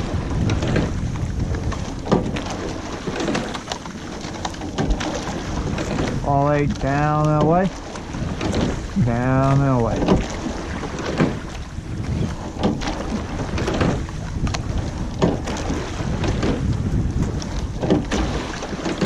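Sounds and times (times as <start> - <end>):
oars and rigging knocking: 0.0 - 19.0
water noise: 0.0 - 19.0
wind on microphone: 0.0 - 19.0.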